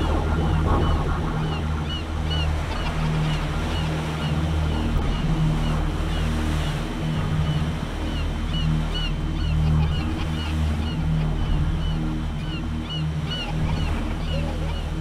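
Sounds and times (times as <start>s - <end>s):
low synth drone: 0.0s - 15.0s
slow pulsing bass: 0.0s - 15.0s
wash like waves: 0.0s - 15.0s.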